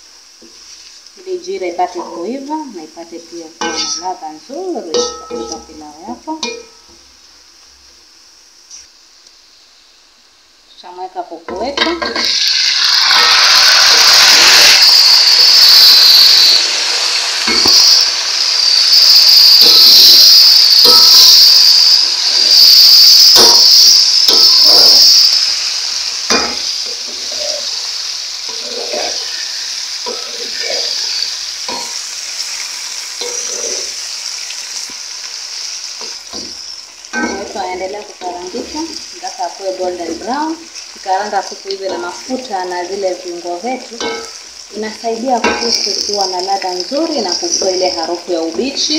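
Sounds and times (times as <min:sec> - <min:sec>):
chicken sizzling in oil: 0:00.0 - 0:48.9.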